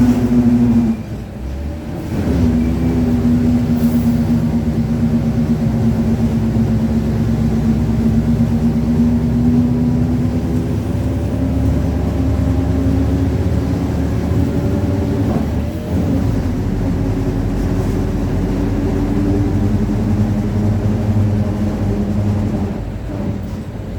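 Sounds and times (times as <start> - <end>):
bus drivetrain droning growl: 0.0 - 23.9.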